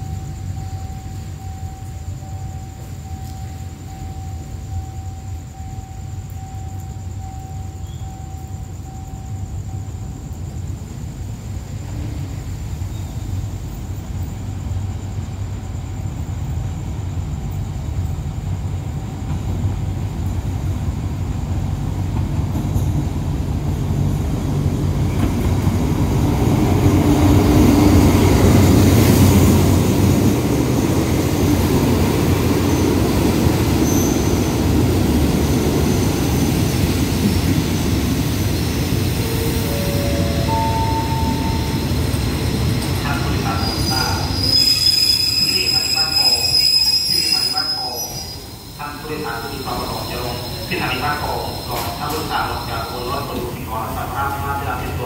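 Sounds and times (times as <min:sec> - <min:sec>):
diesel locomotive engine: 0:08.6 - 0:55.0
train wheels rolling: 0:10.2 - 0:55.0.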